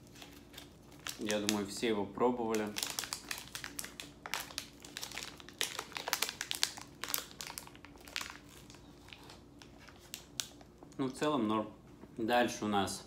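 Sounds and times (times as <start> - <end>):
plastic wrapper crinkling: 0.0 - 11.3.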